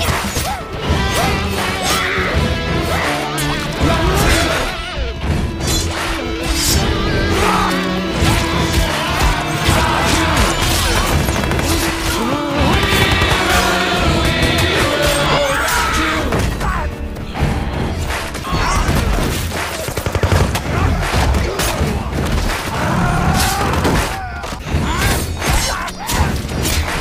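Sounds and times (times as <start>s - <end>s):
action film music: 0.0s - 27.0s.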